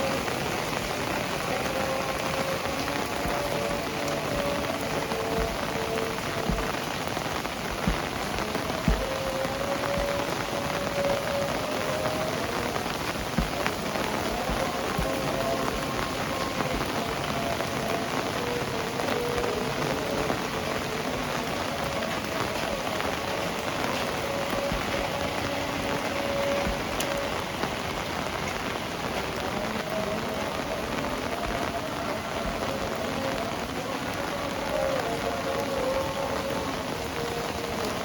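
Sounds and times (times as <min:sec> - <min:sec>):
heavy rain pattering: 0:00.0 - 0:38.0.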